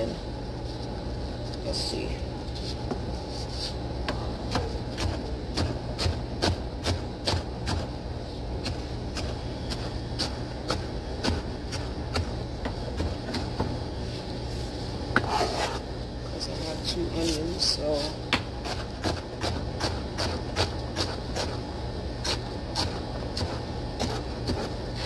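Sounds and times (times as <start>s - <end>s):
constant low hum: 0.0s - 25.0s.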